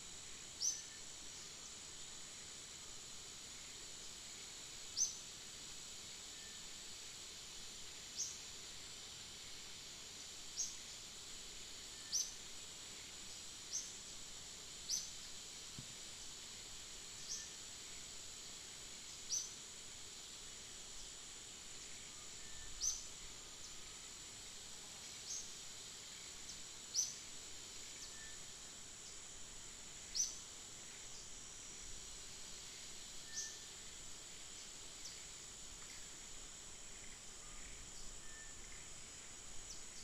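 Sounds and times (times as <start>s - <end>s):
high-pitched insect hiss: 0.0s - 40.0s.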